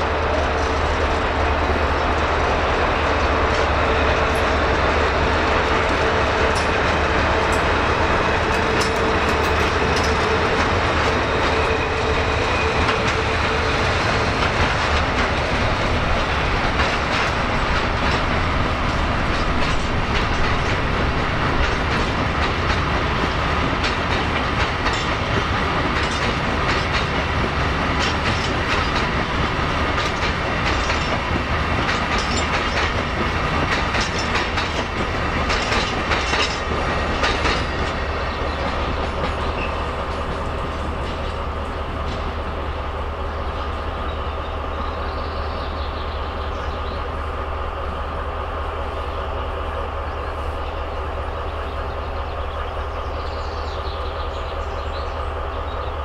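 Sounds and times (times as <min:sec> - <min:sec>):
train rumble: 0:00.0 - 0:56.0
train wheels clicking over rail joints: 0:00.0 - 0:56.0.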